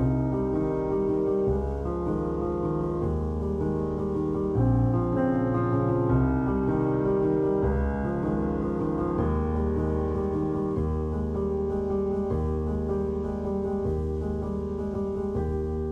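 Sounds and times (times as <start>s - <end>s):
instrumental music with held chords: 0.0s - 15.9s.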